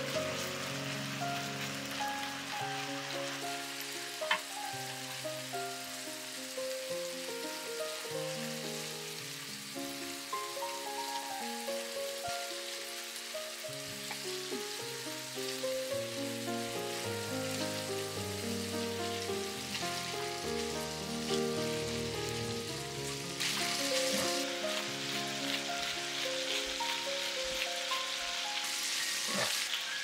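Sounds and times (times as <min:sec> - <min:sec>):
fish sizzling in a frying pan: 0:00.0 - 0:30.0
soft background music: 0:00.0 - 0:30.0.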